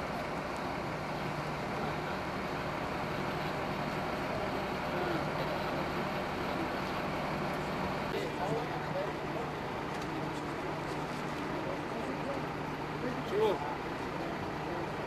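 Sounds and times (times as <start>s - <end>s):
street noise: 0.0s - 15.0s
vehicle engine idling: 0.0s - 15.0s.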